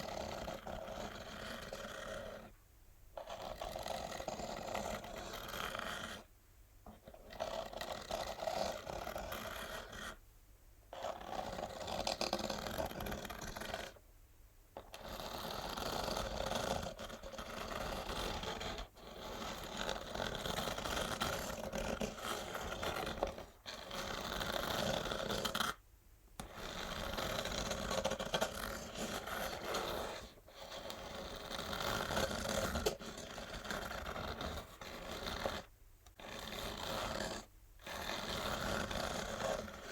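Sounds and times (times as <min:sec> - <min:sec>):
fingernails scratching cardboard box: 0:00.0 - 0:02.5, 0:03.2 - 0:06.3, 0:06.9 - 0:10.2, 0:10.9 - 0:14.0, 0:14.8 - 0:25.8, 0:26.4 - 0:39.9.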